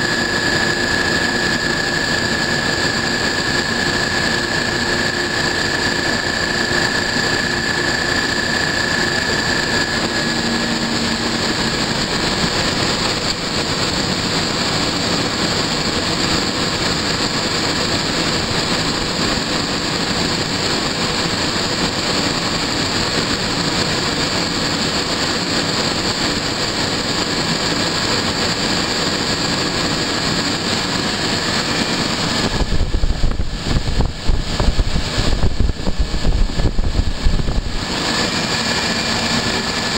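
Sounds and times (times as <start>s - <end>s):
refrigeration compressors droning: 0.0s - 39.9s
wind on microphone: 0.0s - 39.9s.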